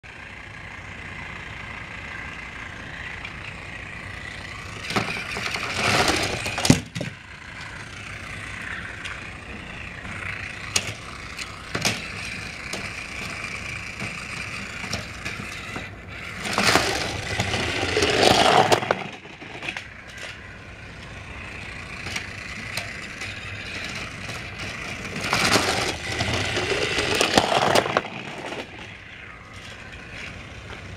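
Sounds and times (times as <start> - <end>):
toy train whining: 0.0 - 30.9
toy train rattling clatter: 0.1 - 30.9.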